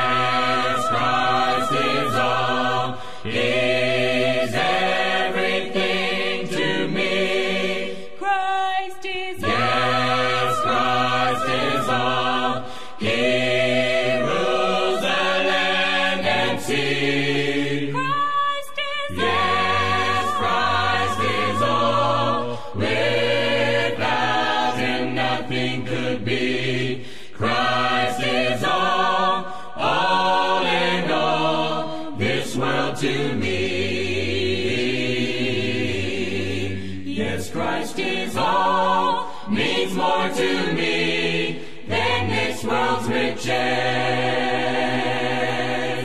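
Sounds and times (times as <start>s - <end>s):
gospel choir singing a hymn: 0.0s - 46.0s.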